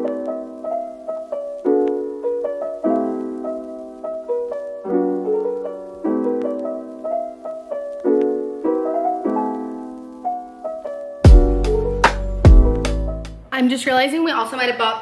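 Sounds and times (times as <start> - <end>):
soft piano chords: 0.0 - 13.5.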